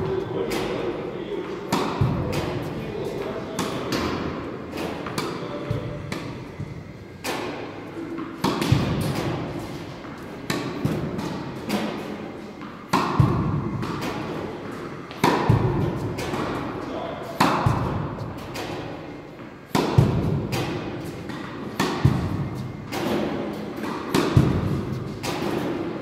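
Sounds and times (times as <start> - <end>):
tennis ball thuds in a hall: 0.0 - 26.0.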